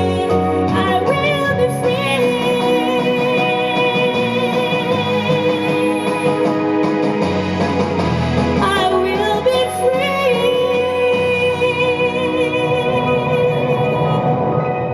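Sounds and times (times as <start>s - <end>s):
woman singing: 0.0s - 6.7s, 8.6s - 14.6s
instrumental accompaniment: 0.0s - 14.9s.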